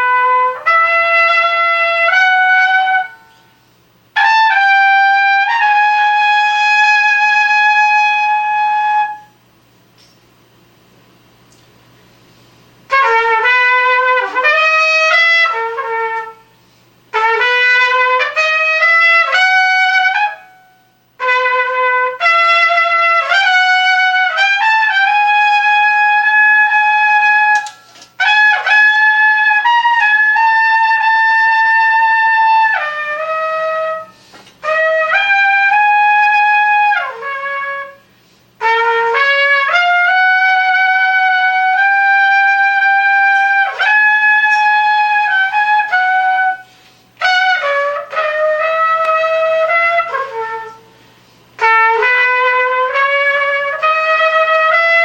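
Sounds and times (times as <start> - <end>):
solo trumpet playing jazz: 0.0 - 9.5, 12.6 - 55.0.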